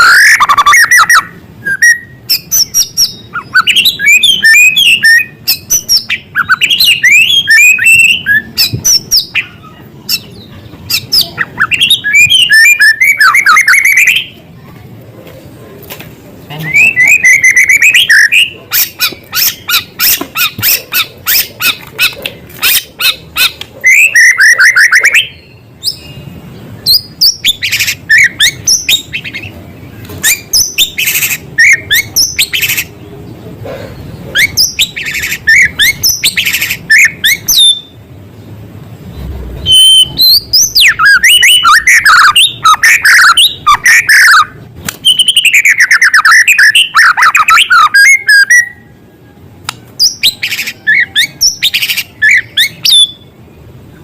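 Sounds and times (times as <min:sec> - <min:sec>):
bird singing with trills: 0:00.0 - 0:14.4, 0:16.5 - 0:54.0.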